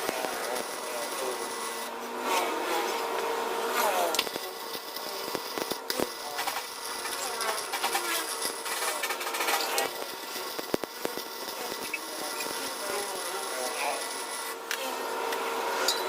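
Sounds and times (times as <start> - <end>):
tool scraping and rubbing: 0.0 - 15.0.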